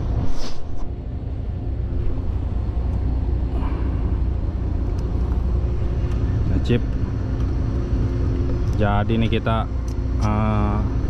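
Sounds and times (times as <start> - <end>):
machine rumble and hum: 0.0 - 11.0.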